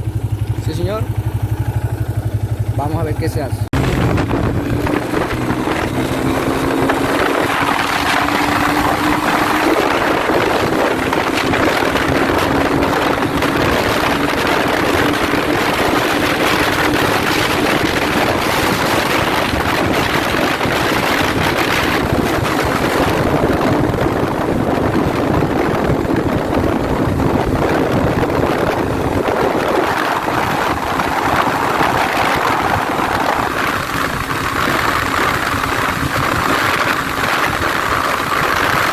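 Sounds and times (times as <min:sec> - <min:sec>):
motorcycle engine pulling hard: 0:00.0 - 0:38.9
wind rush on microphone: 0:03.7 - 0:38.9.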